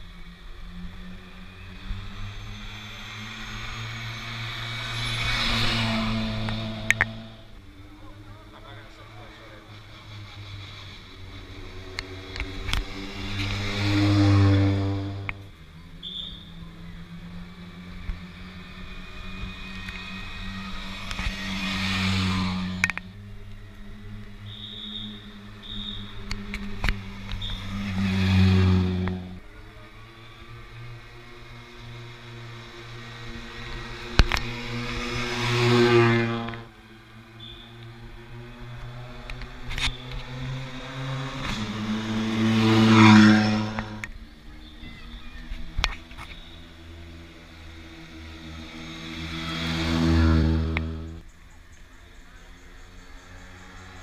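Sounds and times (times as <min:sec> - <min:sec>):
rally car engines passing: 0:00.0 - 0:54.0.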